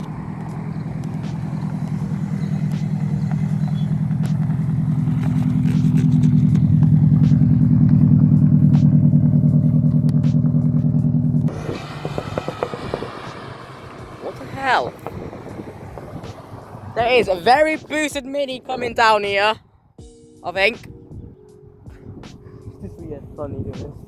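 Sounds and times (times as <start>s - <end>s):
car engine running: 0.0s - 19.9s.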